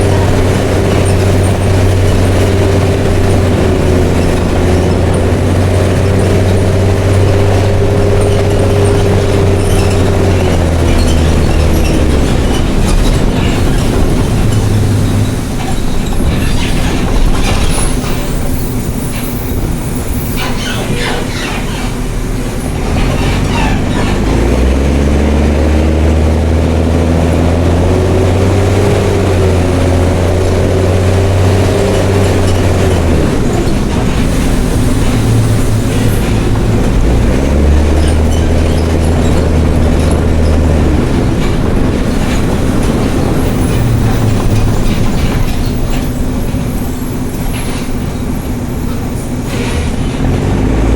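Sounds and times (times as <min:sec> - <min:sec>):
bus body rattling: 0:00.0 - 0:50.9
diesel bus engine pulling hard: 0:00.0 - 0:50.9.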